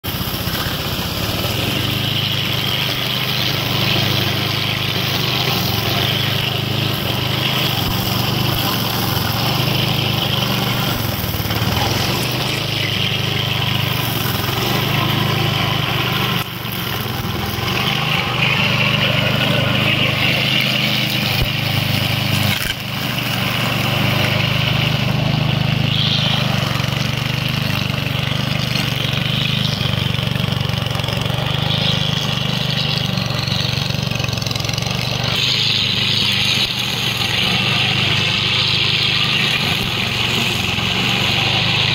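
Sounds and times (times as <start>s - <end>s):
grass being cut: 0.0s - 41.9s
lawn mower engine running: 0.0s - 41.9s.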